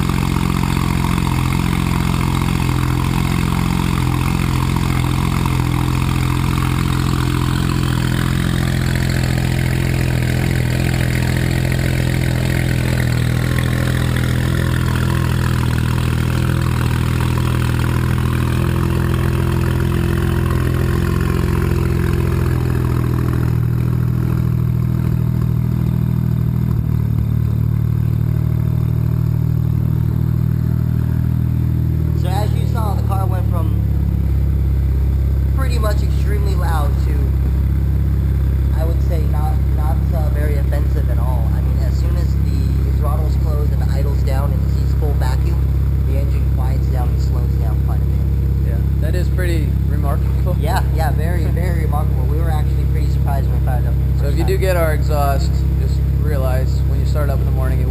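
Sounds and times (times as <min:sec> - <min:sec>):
car engine idling high: 0:00.0 - 0:57.9.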